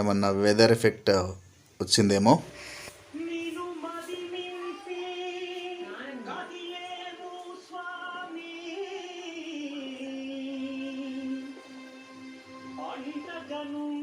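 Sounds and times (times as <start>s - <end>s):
person singing devotional song: 2.5s - 14.0s.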